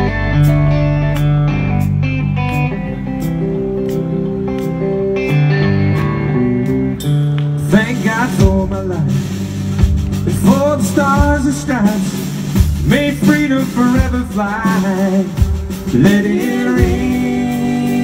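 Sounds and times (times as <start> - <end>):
country band playing: 0.0 - 18.0
drum kit: 0.0 - 18.0
held guitar chords: 0.0 - 18.0.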